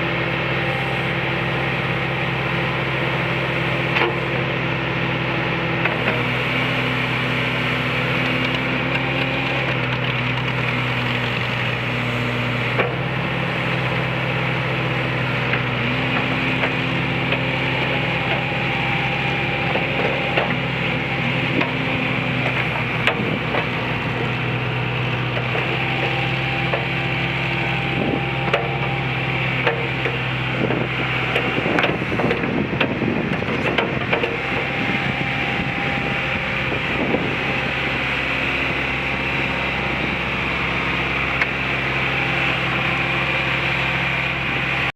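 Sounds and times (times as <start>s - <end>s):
backhoe diesel engine running: 0.0s - 44.9s.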